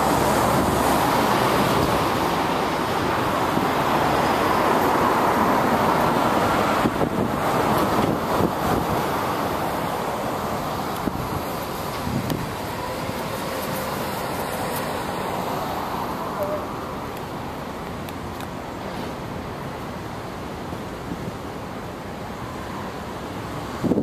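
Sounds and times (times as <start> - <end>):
cars driving along street: 0.0 - 24.0.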